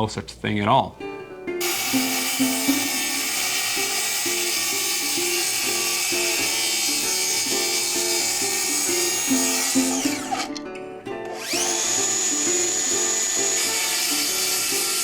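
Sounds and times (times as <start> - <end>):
background music: 0.0 - 15.0
circular saw motor whining: 1.6 - 10.5, 11.3 - 15.0.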